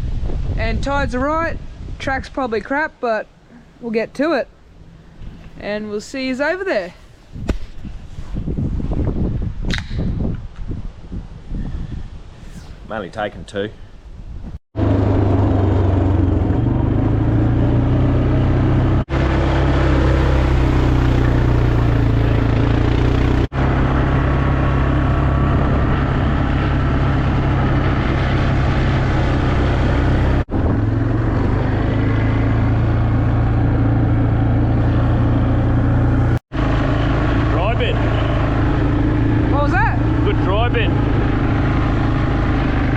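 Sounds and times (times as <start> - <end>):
vehicle engine and road noise: 0.0 - 42.9.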